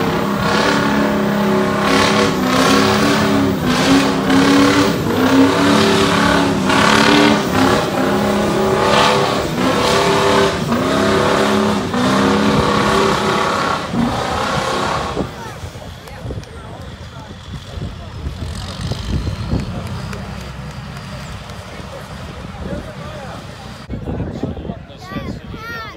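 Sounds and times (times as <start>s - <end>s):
truck engine at full throttle: 0.0s - 24.7s.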